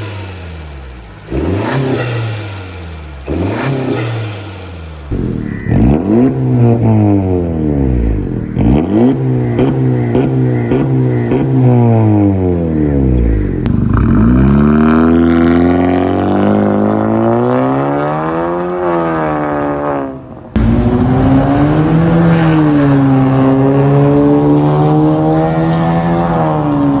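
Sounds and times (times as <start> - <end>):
car engine and exhaust revving: 0.0 - 27.0.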